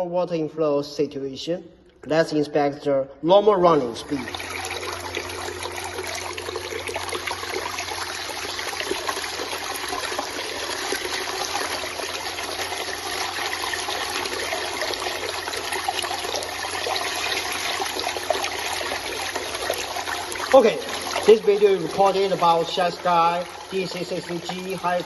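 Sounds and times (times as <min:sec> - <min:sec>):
low steady pump hum: 0:03.3 - 0:25.0
water rushing and trickling: 0:04.0 - 0:25.0.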